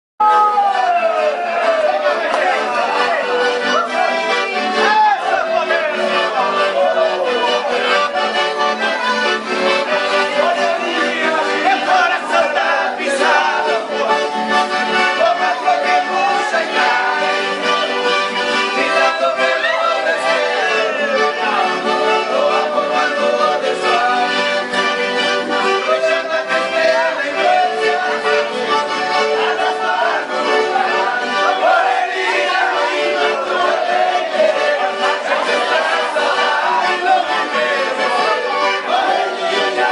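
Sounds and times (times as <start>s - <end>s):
accordion playing dance tune: 0.2s - 39.9s.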